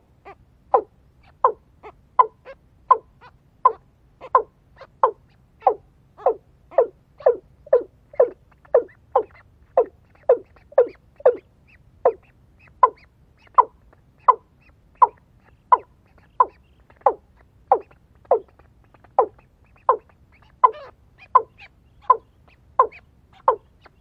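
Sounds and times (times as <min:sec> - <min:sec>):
bird calling: 0:00.2 - 0:24.0.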